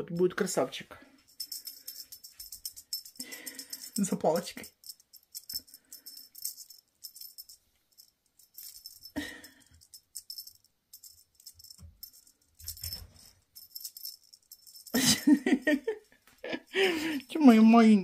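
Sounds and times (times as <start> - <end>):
wand toy rattling: 1.2 - 15.6.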